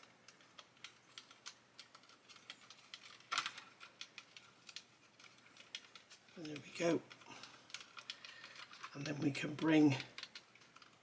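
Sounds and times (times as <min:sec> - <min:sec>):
plastic track links clicking: 0:00.0 - 0:11.0.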